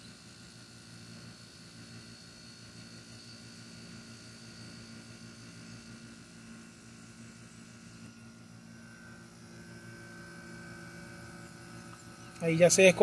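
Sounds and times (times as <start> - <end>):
air conditioner compressor humming: 0.0 - 13.0
faint high whine: 0.0 - 13.0.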